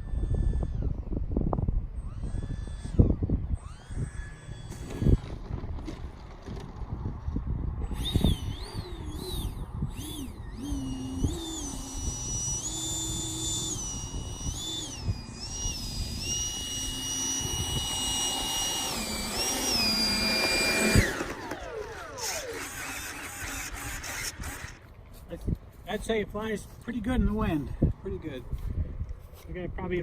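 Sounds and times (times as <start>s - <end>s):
wind rumble on microphone: 0.0s - 21.7s, 24.4s - 30.0s
electric jet fan whining: 0.0s - 24.9s.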